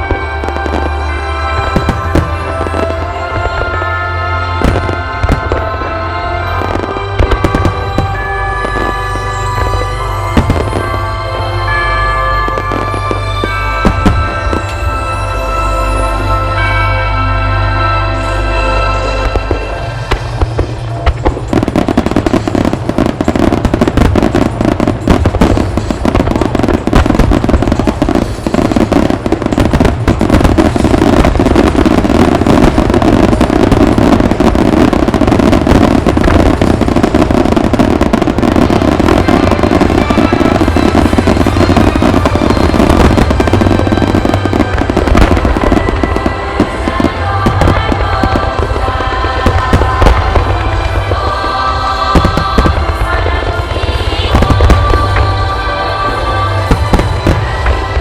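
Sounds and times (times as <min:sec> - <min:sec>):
fireworks bursting and crackling: 0:00.0 - 0:58.0
music: 0:00.0 - 0:58.0.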